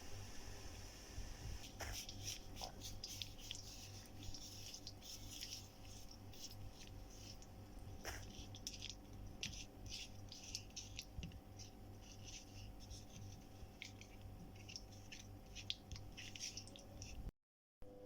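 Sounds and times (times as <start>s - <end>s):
faint steady hum: 0.0s - 18.0s
scratching and clicking of utensils: 1.6s - 17.3s.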